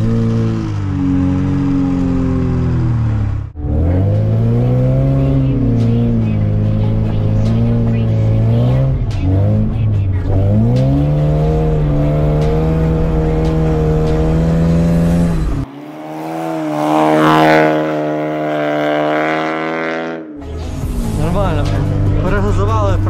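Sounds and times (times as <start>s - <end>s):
car engine at high revs: 0.0s - 23.0s
car engine revving outside: 0.0s - 23.0s.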